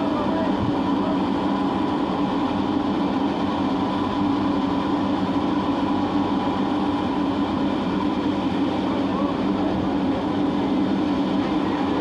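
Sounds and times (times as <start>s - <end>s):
ship engine droning: 0.0s - 12.0s.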